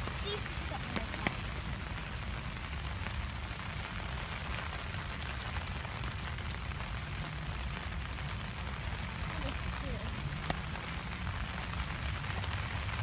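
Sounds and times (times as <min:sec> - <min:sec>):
rain falling on grass: 0:00.0 - 0:13.0.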